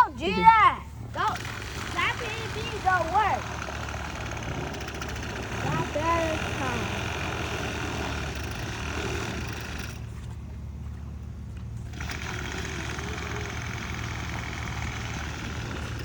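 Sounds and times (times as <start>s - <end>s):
small engine humming: 0.0s - 16.0s.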